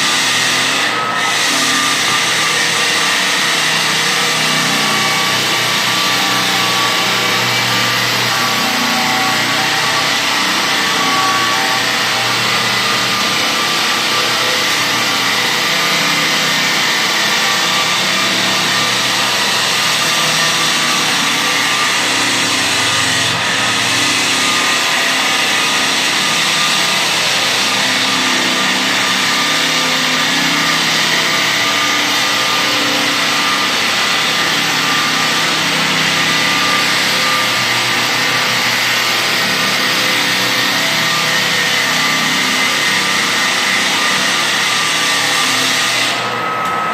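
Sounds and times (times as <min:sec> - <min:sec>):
electric sander running: 0:00.0 - 0:46.9.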